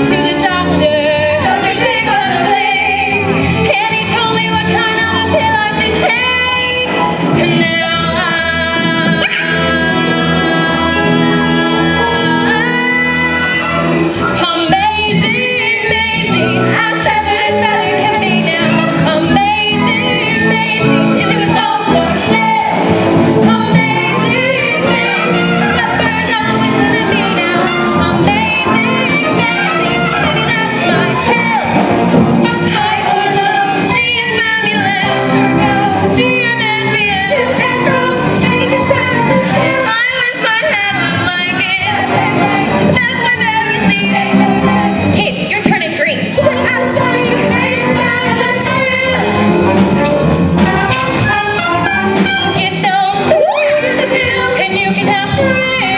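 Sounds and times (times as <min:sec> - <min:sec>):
instrumental accompaniment: 0:00.0 - 0:55.9
woman singing: 0:00.0 - 0:55.9.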